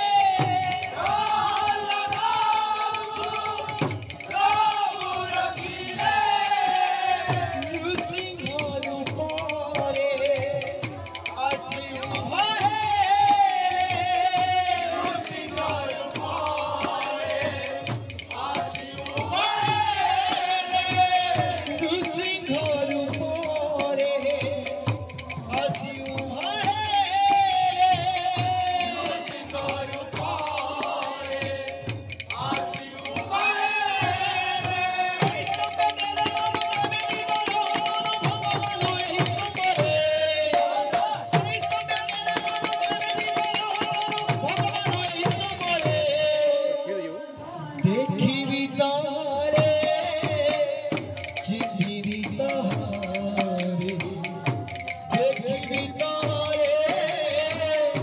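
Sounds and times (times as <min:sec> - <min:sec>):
jingling hand percussion: 0:00.0 - 0:46.7, 0:47.3 - 0:58.0.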